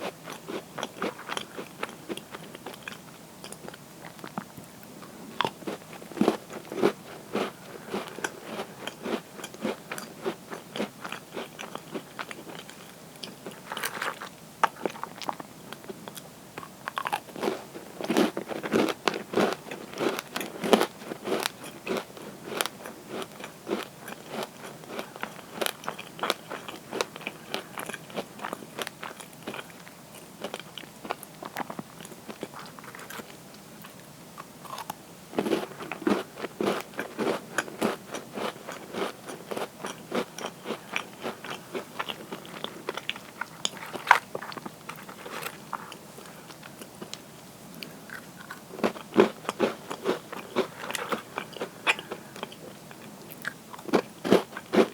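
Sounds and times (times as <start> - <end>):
crunching and chewing cookies: 0.0 - 54.9.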